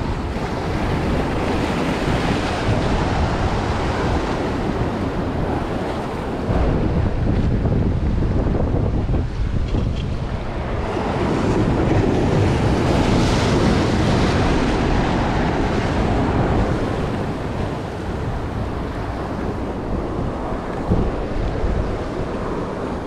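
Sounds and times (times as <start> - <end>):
ocean surf washing over rocks: 0.0 - 23.0
wind buffeting microphone: 0.0 - 23.0.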